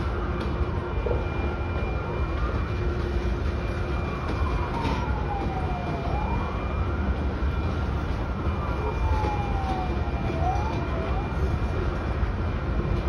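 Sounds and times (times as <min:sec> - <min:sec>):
siren wailing: 0:00.0 - 0:12.7
freight train cars rolling: 0:00.0 - 0:13.0.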